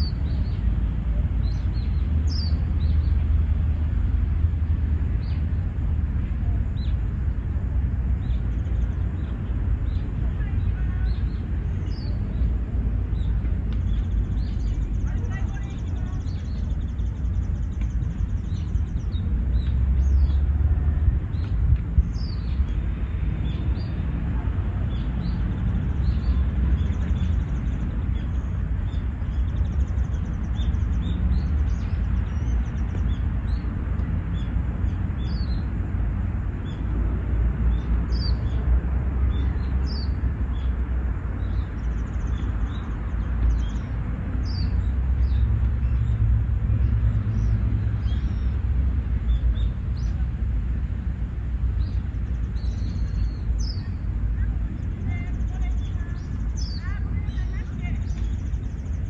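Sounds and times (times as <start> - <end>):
small birds chirping: 0.0 - 59.0
steady low rumble: 0.0 - 59.0.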